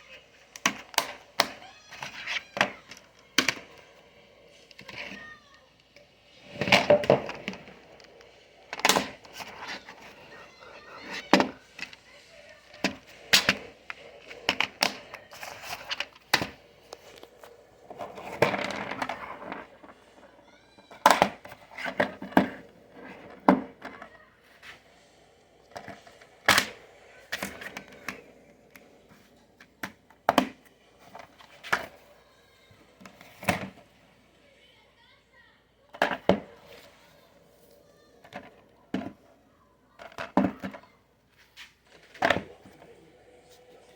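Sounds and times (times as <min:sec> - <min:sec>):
rustling and shuffling: 0:00.0 - 0:34.4, 0:35.8 - 0:43.9.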